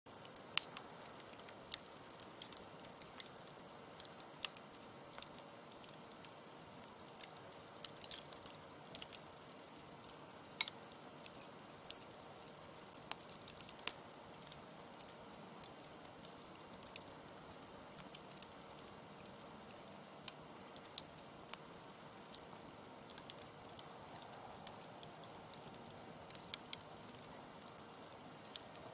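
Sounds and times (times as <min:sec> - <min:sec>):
campfire crackling and popping: 0:00.1 - 0:28.9
low steady hiss: 0:00.1 - 0:28.9.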